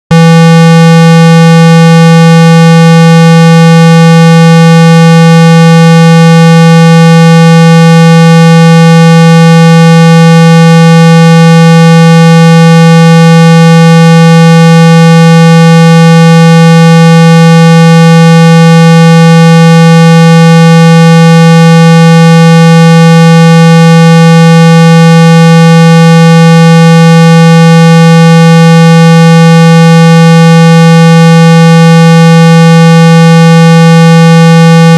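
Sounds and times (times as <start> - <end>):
loud buzzy tone: 0.0 - 34.9.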